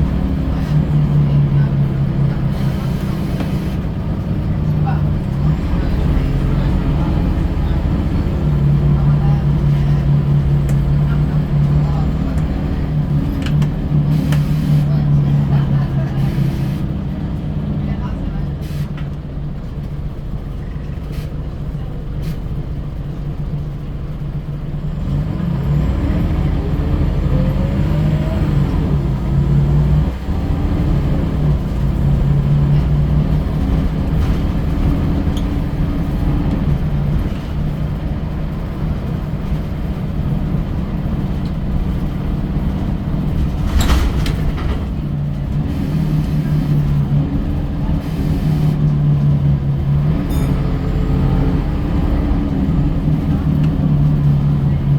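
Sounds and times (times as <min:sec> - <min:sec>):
bus diesel engine accelerating: 0:00.0 - 0:54.9.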